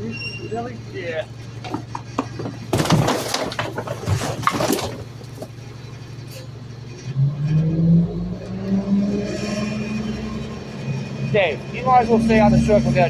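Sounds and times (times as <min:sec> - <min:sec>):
garbage truck engine humming: 0:00.0 - 0:13.0.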